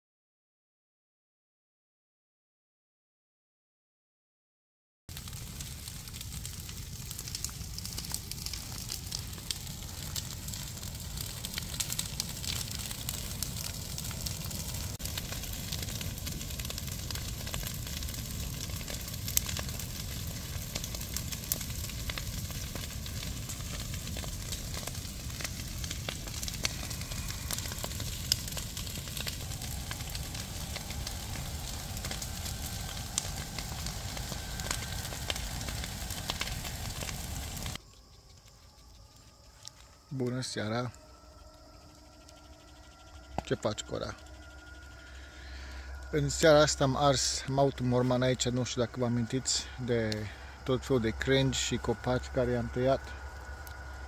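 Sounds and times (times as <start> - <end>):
bonfire crackling and popping: 5.1 - 54.0.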